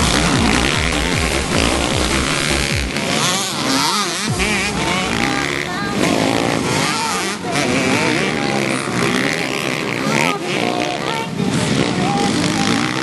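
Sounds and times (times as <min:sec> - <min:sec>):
dirt bike engines revving: 0:00.0 - 0:13.0
indistinct voices: 0:00.0 - 0:13.0.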